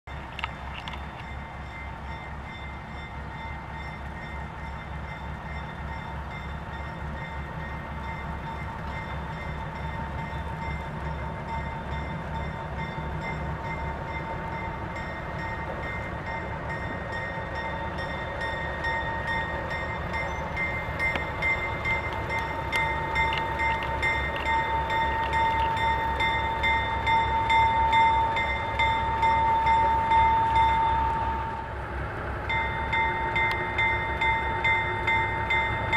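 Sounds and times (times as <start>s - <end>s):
locomotive engine throb: 0.2s - 35.9s.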